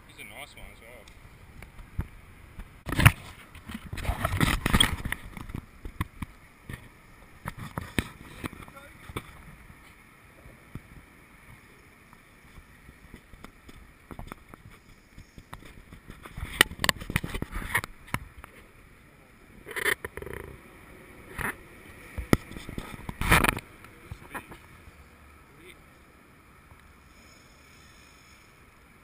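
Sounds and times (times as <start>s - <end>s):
faint steady background noise: 0.0s - 29.0s.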